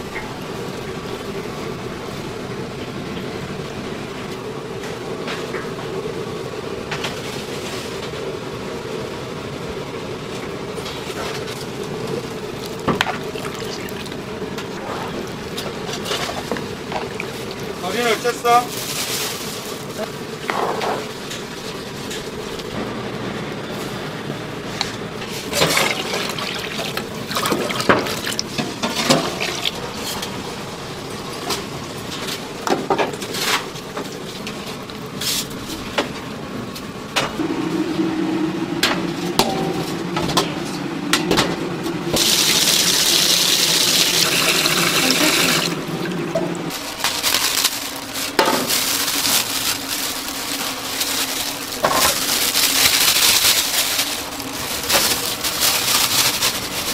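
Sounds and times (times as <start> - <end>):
steady hum: 0.0 - 56.9.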